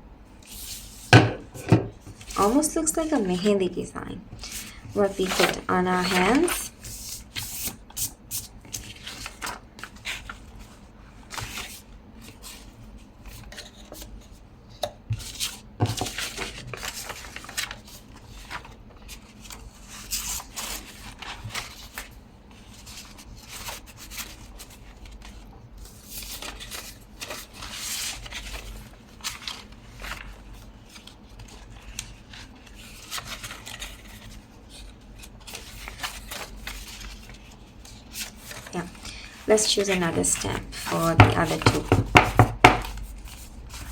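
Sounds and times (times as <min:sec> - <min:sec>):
paper rustling and scraping: 0:00.4 - 0:03.6, 0:04.4 - 0:14.4, 0:15.1 - 0:43.9.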